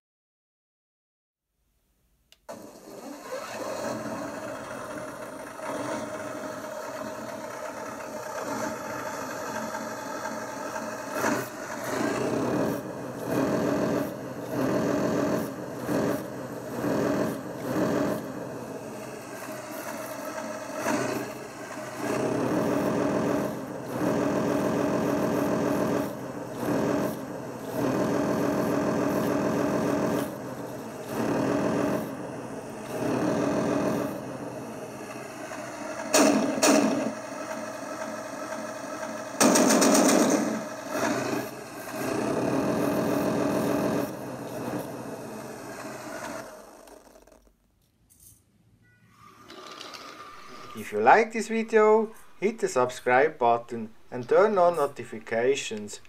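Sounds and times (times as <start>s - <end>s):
simulated tank engine revving: 2.4s - 47.5s.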